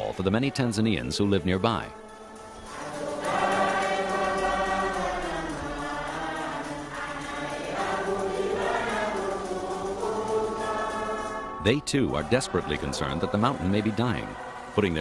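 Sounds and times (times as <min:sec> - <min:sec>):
choir singing held notes: 0:00.0 - 0:15.0.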